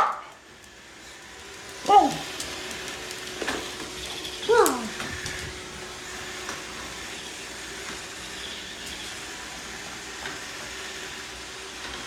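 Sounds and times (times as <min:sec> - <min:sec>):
robot vacuum cleaner whirring: 0:00.4 - 0:12.0.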